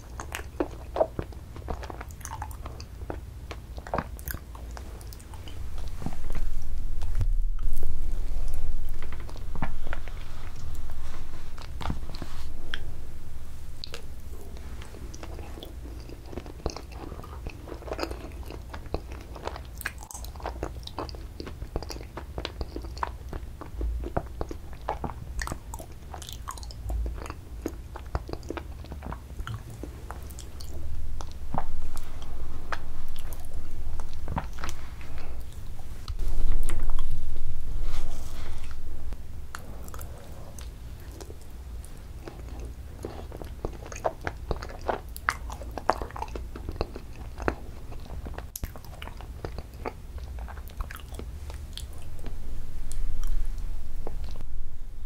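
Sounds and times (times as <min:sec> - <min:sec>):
wet chewing with crunches: 0:00.0 - 0:12.9, 0:13.8 - 0:37.2, 0:37.9 - 0:54.4.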